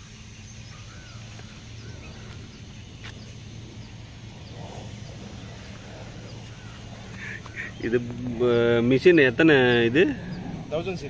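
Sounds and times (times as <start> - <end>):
faint bird chirps: 0.0 - 11.0
steady low hum: 0.0 - 11.0.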